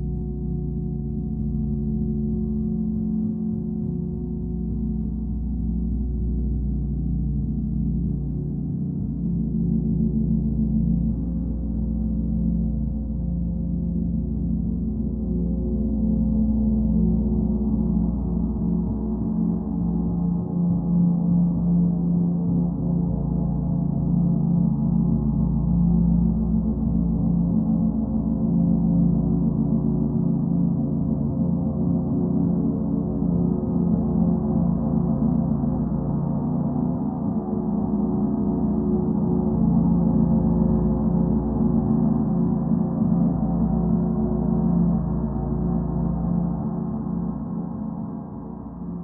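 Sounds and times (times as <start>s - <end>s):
dark ambient drone: 0.0s - 49.0s.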